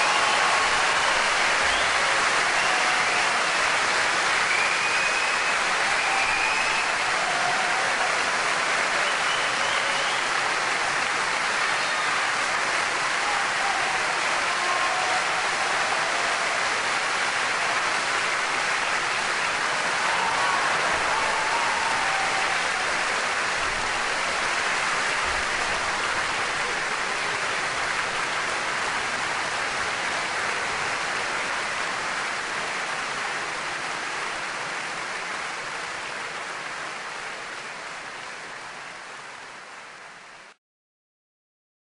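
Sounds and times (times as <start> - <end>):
audience applauding: 0.0 - 40.0.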